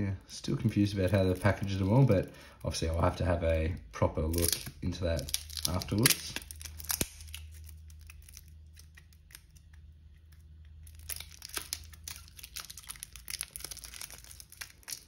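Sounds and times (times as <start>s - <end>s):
plastic shrink-wrap crinkling: 0.0s - 15.0s.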